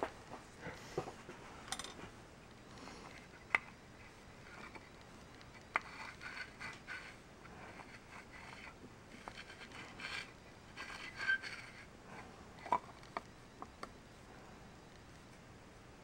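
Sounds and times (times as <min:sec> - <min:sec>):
soft crinkles and scrapes: 0:00.0 - 0:13.4.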